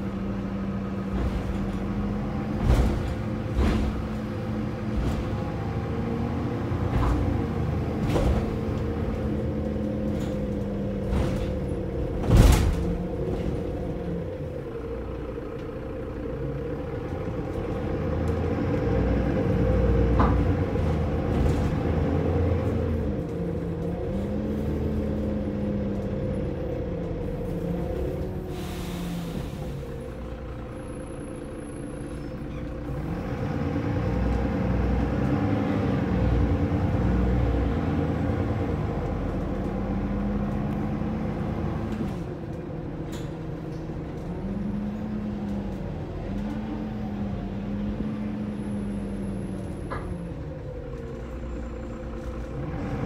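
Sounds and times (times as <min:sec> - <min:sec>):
bus diesel engine: 0:00.0 - 0:53.0
low road rumble: 0:00.0 - 0:53.0.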